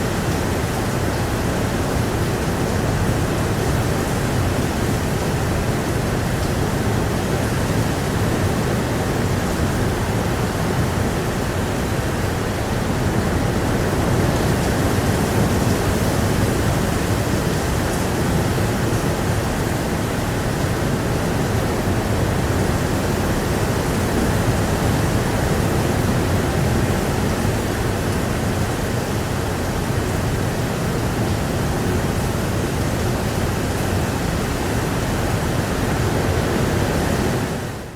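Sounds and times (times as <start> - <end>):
blustery wind: 0.0 - 37.9
heavy rain: 0.0 - 37.9.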